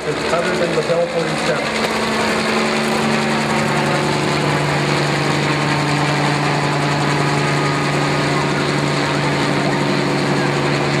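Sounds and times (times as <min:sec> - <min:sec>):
helicopter drone: 0:00.0 - 0:11.0.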